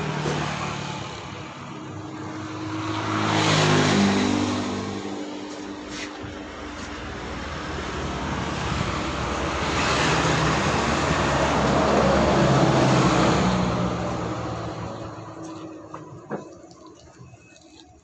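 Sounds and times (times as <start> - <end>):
vehicle engine passing by: 0.0 - 16.2.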